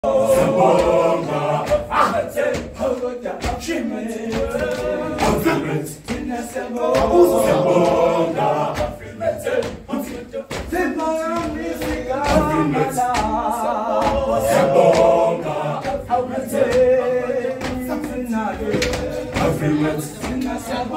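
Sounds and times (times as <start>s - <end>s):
male choir singing a cappella: 0.0s - 20.9s.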